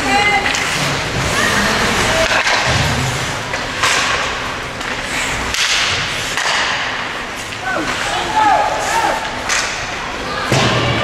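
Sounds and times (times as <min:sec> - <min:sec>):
skates scraping on ice: 0:00.0 - 0:09.3
hockey sticks clacking on puck: 0:00.2 - 0:10.9.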